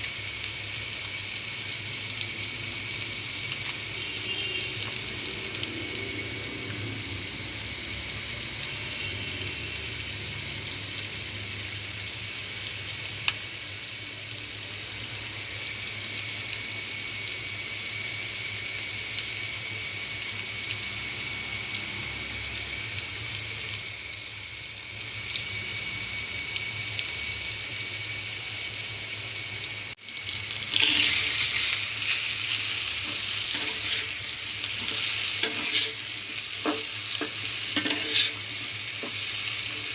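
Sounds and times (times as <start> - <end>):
food sizzling in a pan: 0.0 - 39.9
steady hiss: 0.0 - 39.9.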